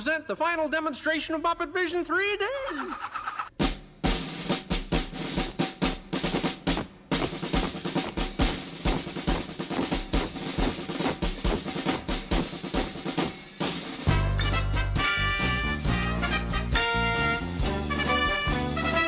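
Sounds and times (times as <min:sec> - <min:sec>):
marching snare and bass drums: 0:03.5 - 0:19.0.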